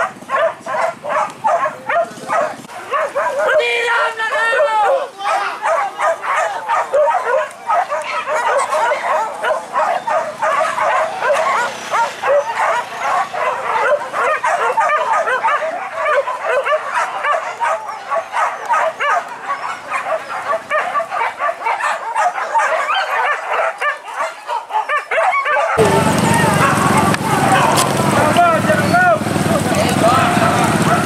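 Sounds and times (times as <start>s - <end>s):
dogs yelping and barking: 0.0s - 28.3s, 30.2s - 31.0s.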